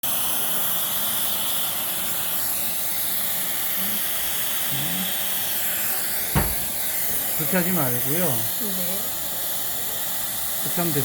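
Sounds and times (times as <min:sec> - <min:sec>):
airy hiss of running equipment: 0:00.0 - 0:11.0.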